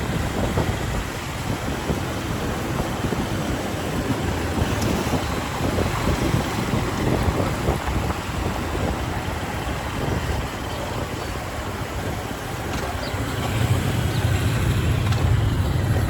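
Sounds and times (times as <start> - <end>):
motorcycle engine: 0.1 - 16.0.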